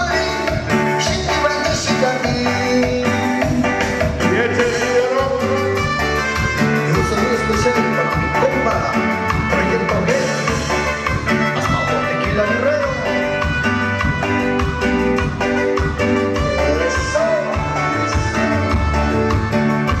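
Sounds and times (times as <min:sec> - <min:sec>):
loud latin dance music: 0:00.0 - 0:20.0.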